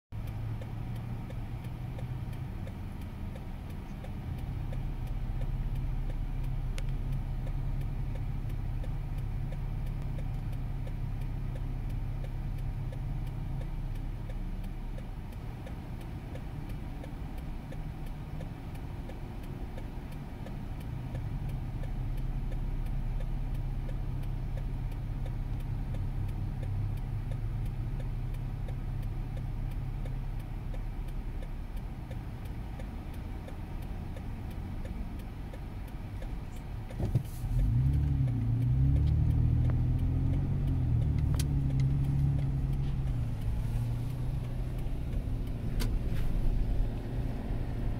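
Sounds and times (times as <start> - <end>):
road traffic rumble: 0.1 - 47.9.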